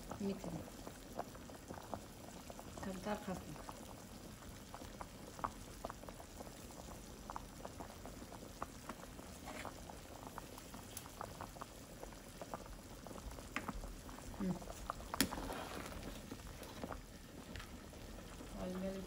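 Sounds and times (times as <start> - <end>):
pot boiling with small pops: 0.0 - 19.0.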